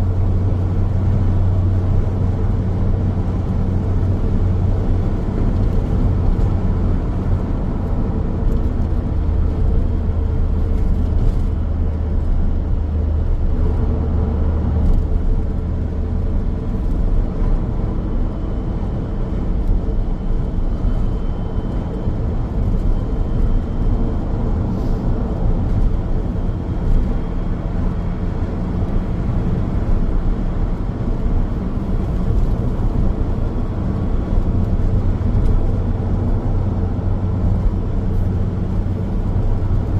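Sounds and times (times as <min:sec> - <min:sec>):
car engine rumble: 0:00.0 - 0:39.9
tyre and road noise: 0:00.0 - 0:39.9.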